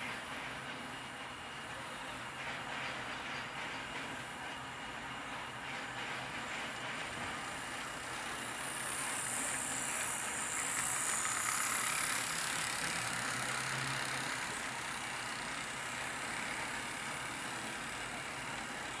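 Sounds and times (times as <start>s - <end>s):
model train whirring on track: 0.0s - 19.0s.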